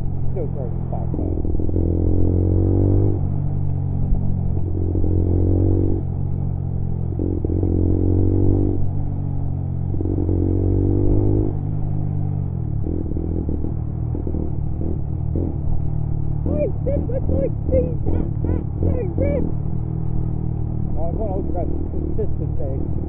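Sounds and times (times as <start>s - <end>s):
motorcycle engine and exhaust: 0.0s - 23.0s.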